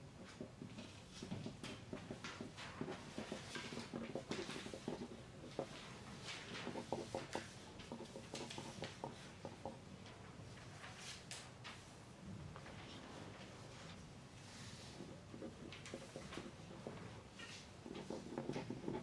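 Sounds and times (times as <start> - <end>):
pencils scratching on paper: 0.0 - 10.2, 12.9 - 19.0.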